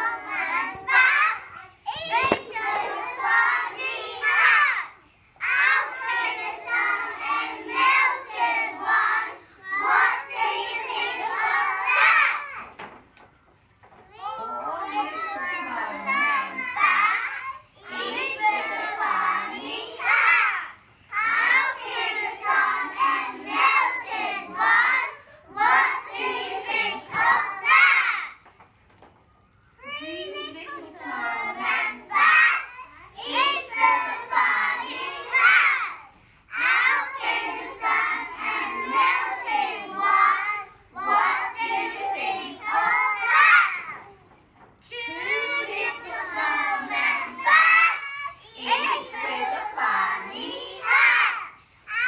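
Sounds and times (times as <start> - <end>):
children singing: 0.0 - 12.6, 14.3 - 28.4, 29.8 - 44.2, 44.9 - 52.0.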